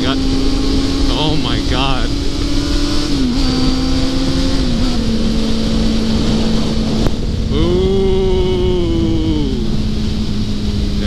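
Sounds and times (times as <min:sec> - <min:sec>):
motorcycle engine cruising: 0:00.0 - 0:11.0
wind on microphone: 0:00.0 - 0:11.0.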